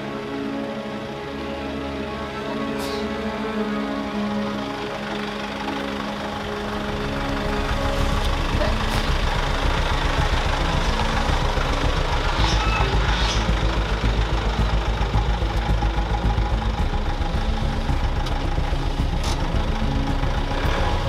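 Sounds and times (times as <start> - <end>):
pickup engine idling: 0.0 - 21.0.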